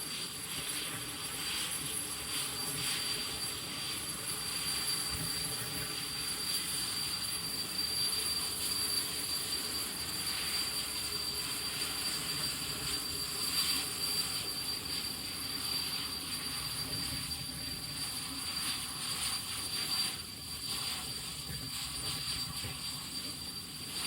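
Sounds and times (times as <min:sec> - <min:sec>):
jet engine whining: 0:00.1 - 0:24.0.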